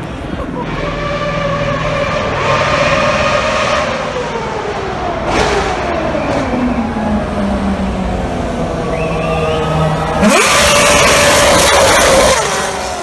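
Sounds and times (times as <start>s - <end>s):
distant racing car engine: 0.0s - 13.0s.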